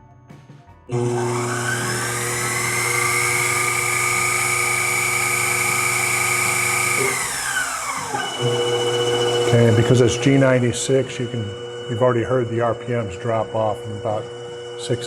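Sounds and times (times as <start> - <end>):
lathe spindle motor whine: 0.9 - 15.0.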